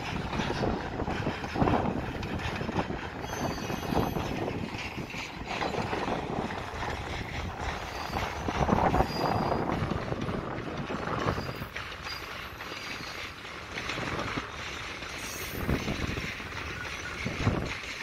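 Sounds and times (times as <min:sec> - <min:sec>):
freight wagons rumbling on rails: 0:00.0 - 0:18.0
wheel squeals: 0:00.0 - 0:18.0.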